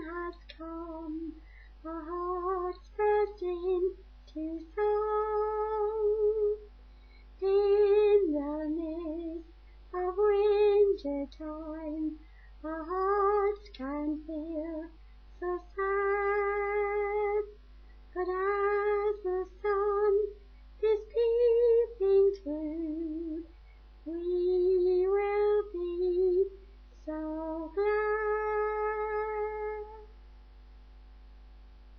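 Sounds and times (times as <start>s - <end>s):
woman singing unaccompanied: 0.0s - 6.7s, 7.4s - 30.1s.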